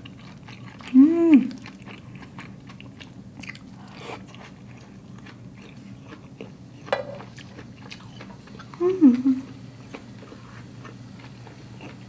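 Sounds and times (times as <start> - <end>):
chewing food: 0.0 - 12.0.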